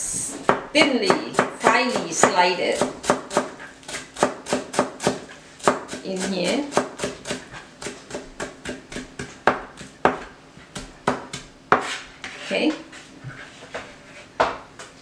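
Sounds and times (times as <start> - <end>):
knife chopping on cutting board: 0.4 - 12.5.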